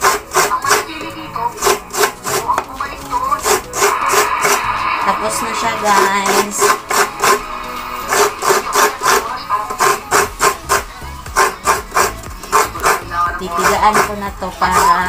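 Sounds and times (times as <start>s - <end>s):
coconut grating rasping: 0.0s - 15.0s.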